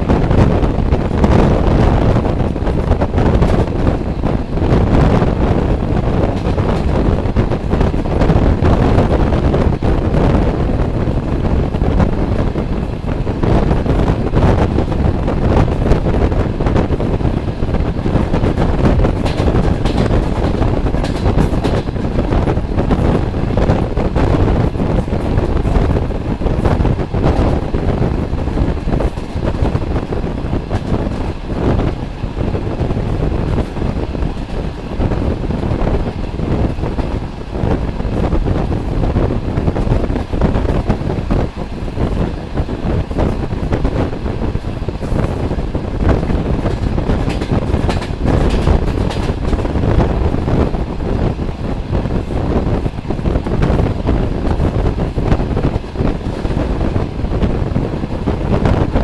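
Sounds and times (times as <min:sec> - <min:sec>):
train wheels rumbling on rails: 0:00.0 - 0:59.0
wind buffeting microphone: 0:00.0 - 0:59.0.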